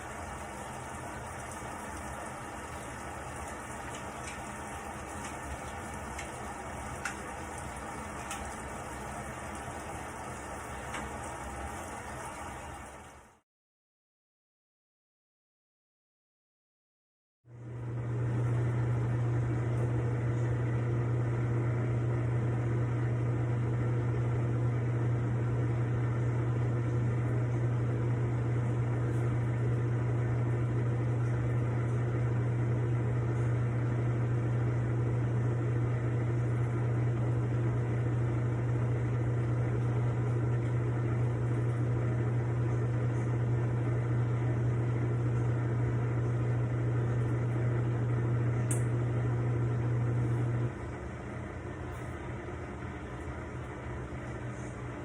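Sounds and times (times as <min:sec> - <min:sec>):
washing machine motor humming: 0:00.0 - 0:13.4, 0:17.5 - 0:55.0.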